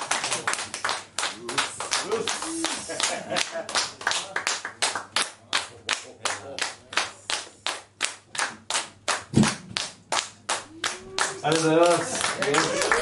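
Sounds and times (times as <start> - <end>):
people clapping in steady time: 0.0 - 13.0.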